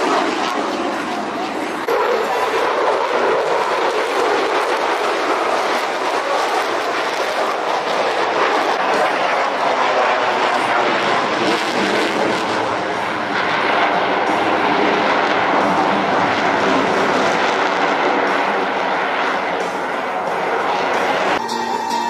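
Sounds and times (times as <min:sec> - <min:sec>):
loud jet engine noise: 0:00.0 - 0:21.8.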